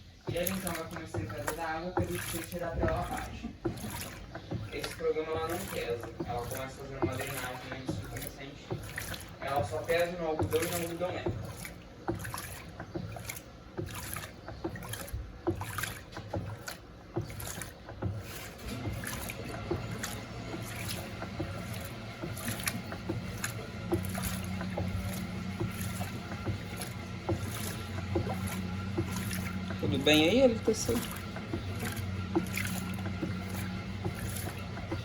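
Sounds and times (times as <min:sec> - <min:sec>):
washing machine pump hum: 0:00.0 - 0:35.0
water splashing and gurgling: 0:00.0 - 0:35.0.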